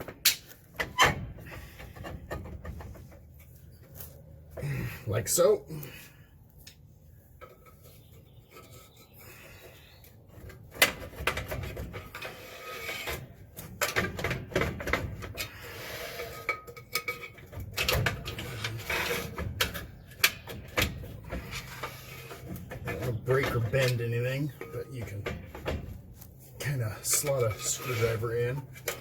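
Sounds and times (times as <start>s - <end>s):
brake drum scraping on hub: 0.0s - 5.6s, 7.2s - 29.0s.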